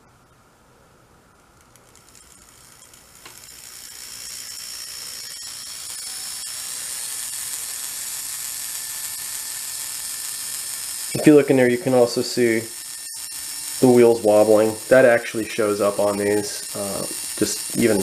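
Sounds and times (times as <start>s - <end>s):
small motor whirring and grinding: 1.4s - 18.0s.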